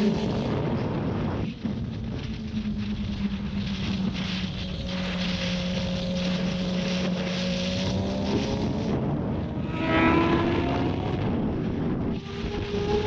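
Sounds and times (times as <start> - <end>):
motorcycle engine cruising: 0.0 - 13.0
wind rushing over microphone: 0.0 - 13.0.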